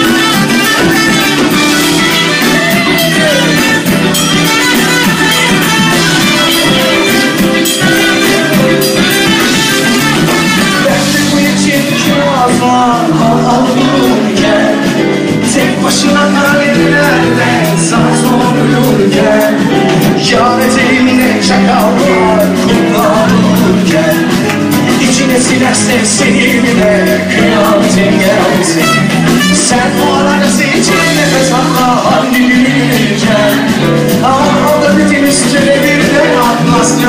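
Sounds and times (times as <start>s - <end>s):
live band playing pop song: 0.0s - 37.0s
man singing: 0.0s - 37.0s.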